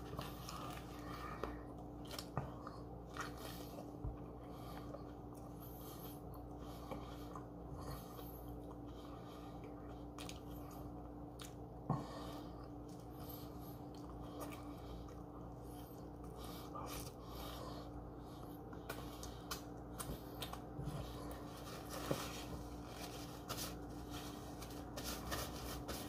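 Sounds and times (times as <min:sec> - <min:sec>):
faint steady hum: 0:00.0 - 0:26.0
person chewing food: 0:00.0 - 0:26.0.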